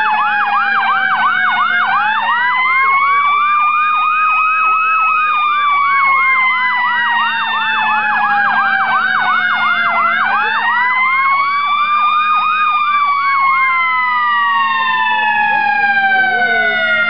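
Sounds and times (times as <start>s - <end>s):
siren fast yelp: 0.0s - 17.0s
siren slow wail: 0.0s - 17.0s.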